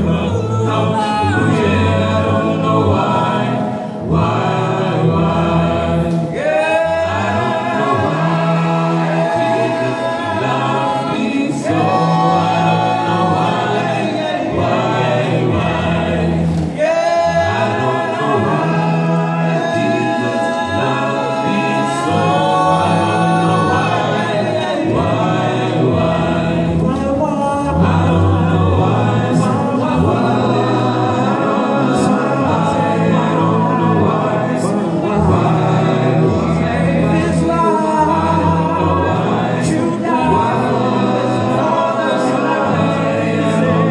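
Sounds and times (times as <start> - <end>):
a cappella group singing gospel: 0.0 - 43.9.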